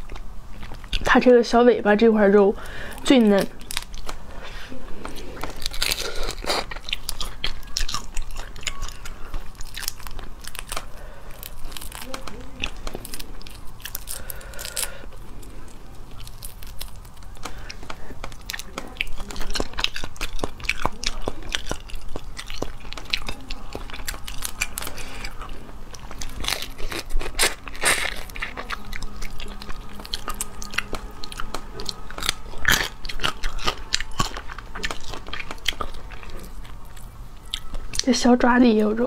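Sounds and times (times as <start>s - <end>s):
biting and chewing: 0.0s - 1.4s, 2.0s - 38.9s
crayfish shells cracking: 2.6s - 4.2s, 5.0s - 38.1s.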